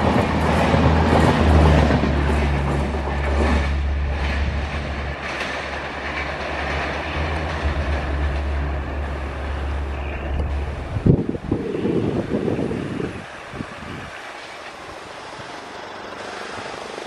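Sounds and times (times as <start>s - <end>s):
passenger train rumbling past: 0.0s - 17.0s.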